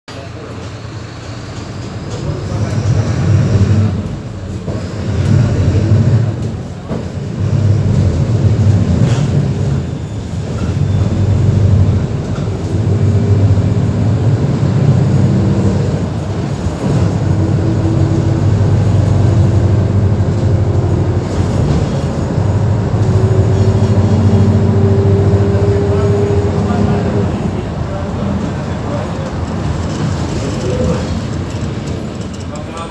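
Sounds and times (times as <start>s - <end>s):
bus diesel engine revving: 1.0s - 31.3s.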